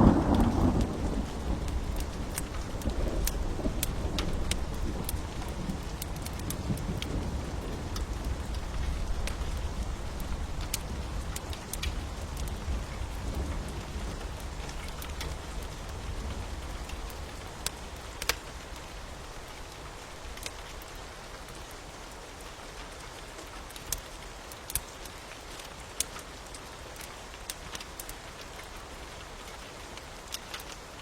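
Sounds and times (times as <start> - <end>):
steady rain: 0.0 - 31.0
wood fire crackling: 0.0 - 31.0.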